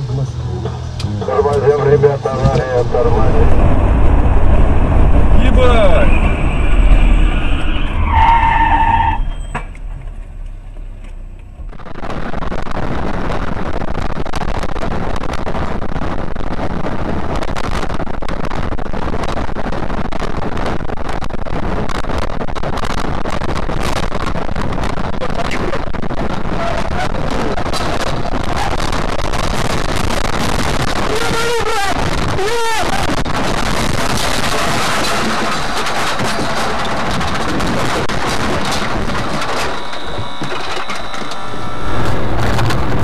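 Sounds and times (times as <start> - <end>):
car engine: 0.0 - 18.6, 21.1 - 43.0
road and wind noise: 0.0 - 43.0
crackles: 1.0 - 43.0.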